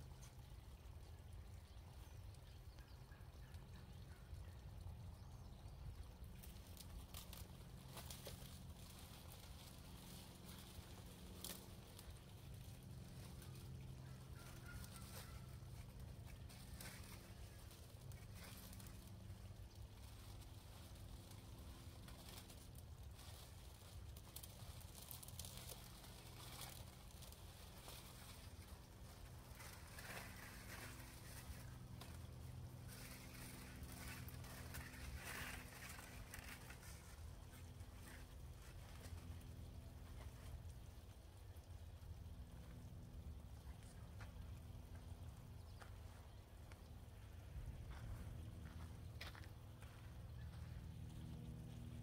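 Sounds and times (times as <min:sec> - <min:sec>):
faint low outdoor rumble: 0:00.0 - 0:52.0
low steady hum: 0:00.0 - 0:52.0.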